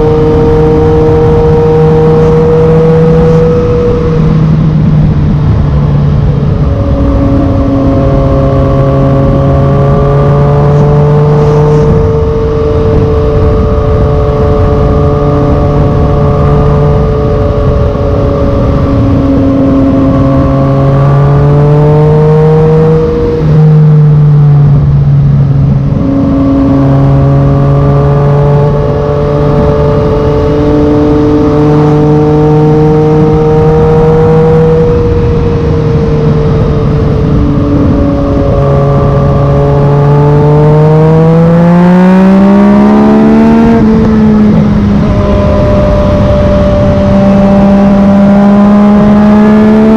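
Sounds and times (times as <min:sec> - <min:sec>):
motorcycle engine under load: 0:00.0 - 0:49.9
wind rush: 0:00.0 - 0:49.9.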